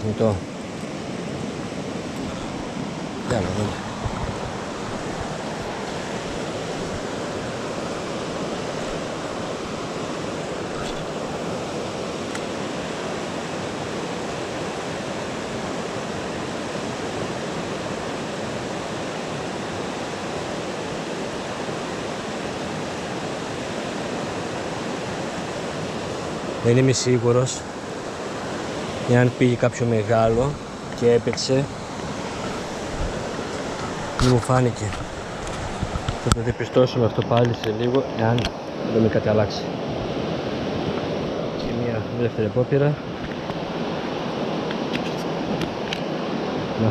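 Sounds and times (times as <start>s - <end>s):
river rushing over rapids: 0.0s - 46.9s.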